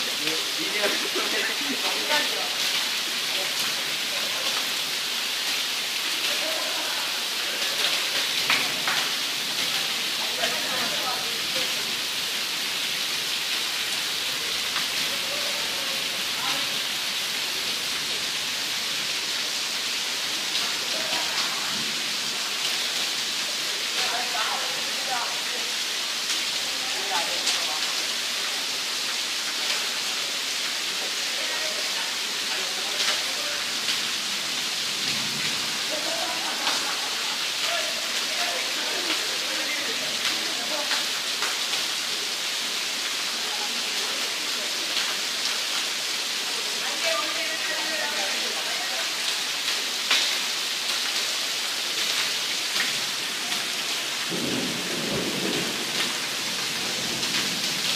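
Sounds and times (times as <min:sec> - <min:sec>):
heavy rain on paving: 0:00.0 - 0:57.9.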